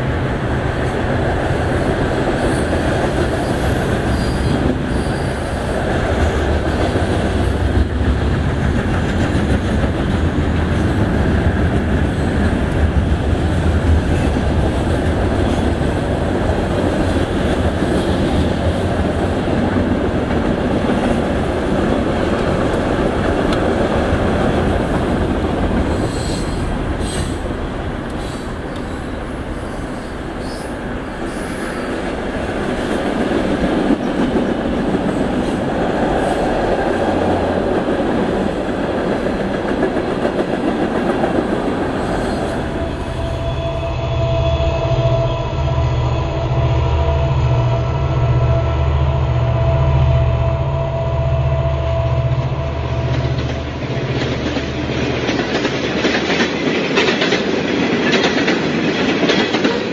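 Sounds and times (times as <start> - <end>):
freight train cars rumbling: 0.0 - 59.9.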